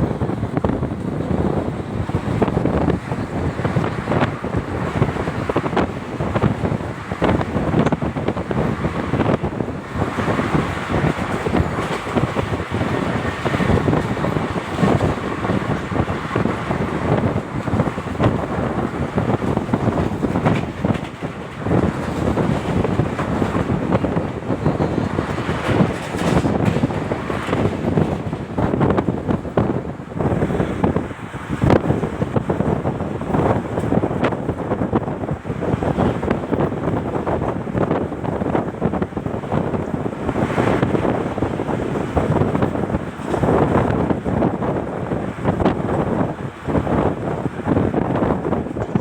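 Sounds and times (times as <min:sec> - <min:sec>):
train running on rails: 0:00.0 - 0:49.0
wheels clacking on rails: 0:00.0 - 0:49.0
wind buffeting microphone: 0:00.0 - 0:49.0.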